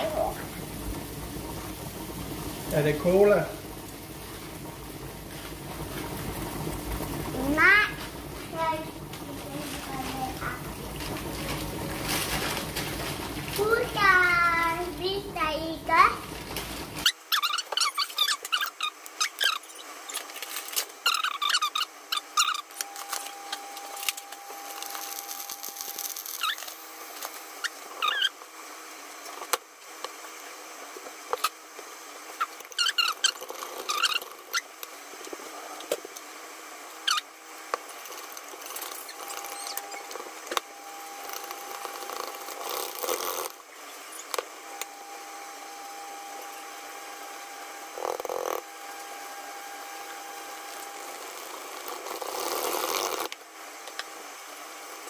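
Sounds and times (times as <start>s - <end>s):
thin steady whine: 0.0s - 55.0s.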